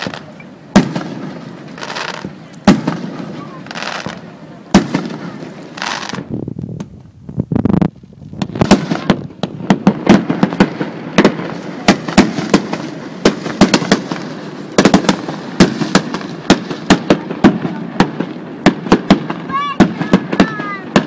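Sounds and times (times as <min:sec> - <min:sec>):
firework shells bursting: 0:00.0 - 0:21.0
firework sparks crackling: 0:00.0 - 0:21.0.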